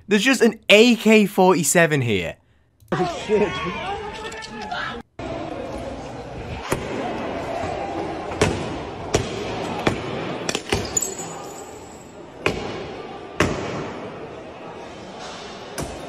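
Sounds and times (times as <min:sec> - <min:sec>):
crowd voices: 0:02.9 - 0:16.0.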